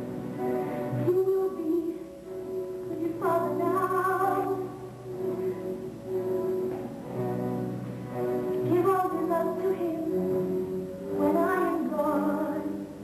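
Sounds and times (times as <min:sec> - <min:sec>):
instrumental accompaniment: 0:00.0 - 0:13.0
woman singing: 0:01.0 - 0:06.9, 0:08.4 - 0:13.0.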